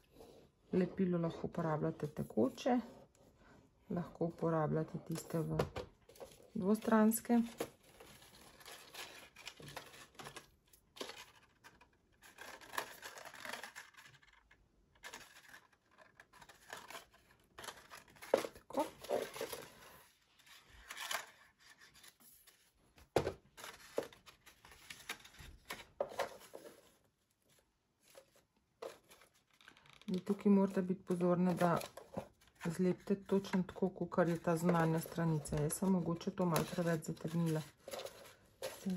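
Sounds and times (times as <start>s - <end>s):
paper rustling and crackling: 5.2s - 38.9s.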